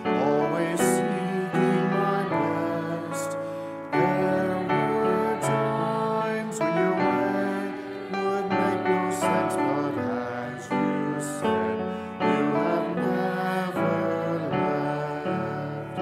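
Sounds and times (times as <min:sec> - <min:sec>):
congregation singing a hymn: 0:00.0 - 0:16.0
piano accompaniment: 0:00.0 - 0:16.0.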